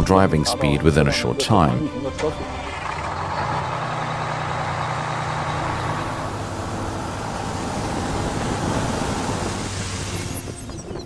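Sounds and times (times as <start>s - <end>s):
truck engine hum: 0.0s - 11.0s
road noise: 1.2s - 11.0s.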